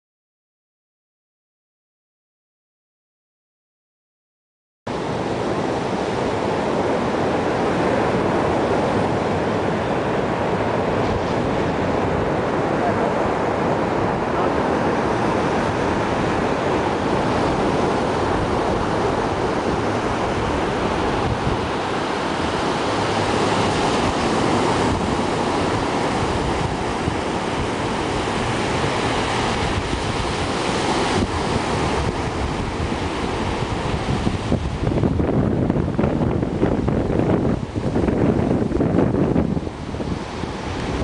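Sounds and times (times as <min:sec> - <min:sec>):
surf breaking on beach: 0:04.9 - 0:41.0
wind buffeting microphone: 0:04.9 - 0:41.0.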